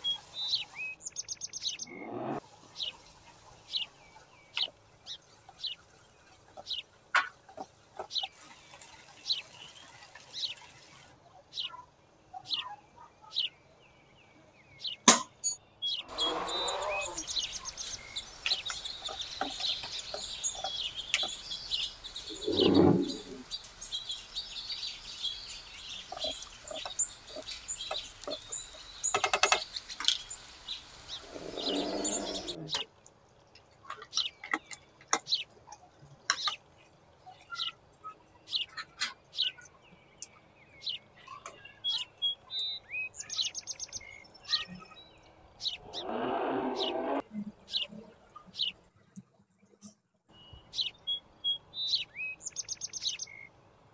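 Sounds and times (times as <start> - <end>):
small birds chirping: 0.0 - 33.0, 33.6 - 49.2, 49.8 - 53.6.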